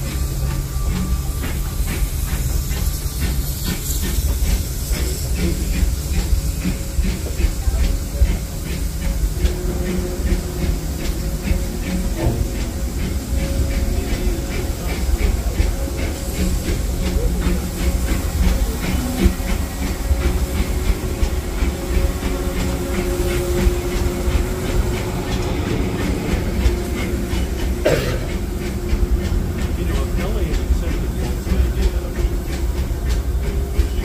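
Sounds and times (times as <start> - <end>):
steam hiss: 0.0 - 34.0
steam train rumble: 0.0 - 34.0.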